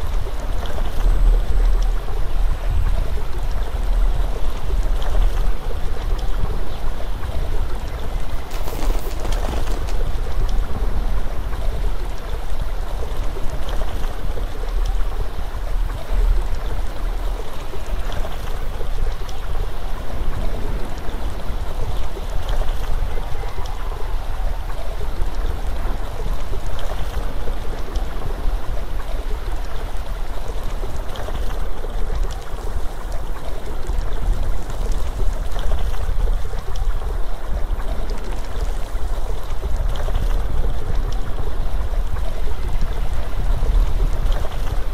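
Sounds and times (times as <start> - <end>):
rushing water: 0.0 - 44.9
wind: 0.0 - 44.9.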